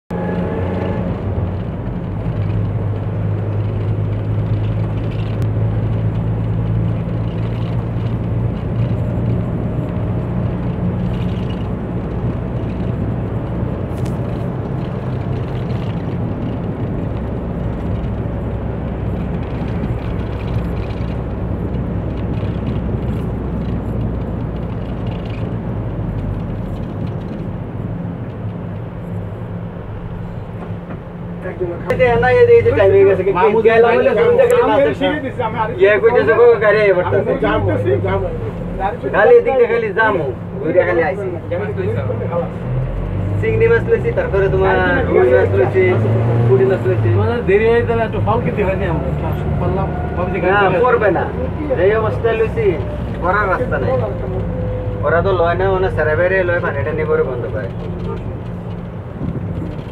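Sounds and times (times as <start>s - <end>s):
road noise inside vehicle: 0.1s - 59.9s
vehicle engine drone: 0.1s - 59.9s.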